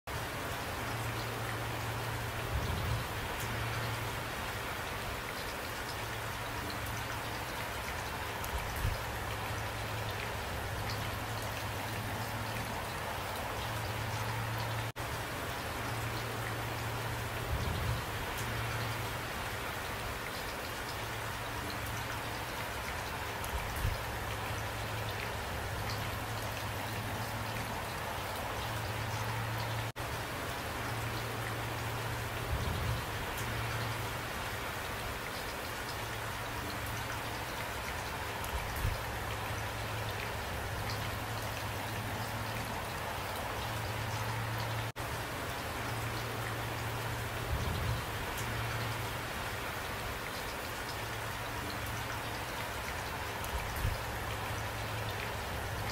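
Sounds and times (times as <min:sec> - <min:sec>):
steady rain falling: 0:00.1 - 0:55.9.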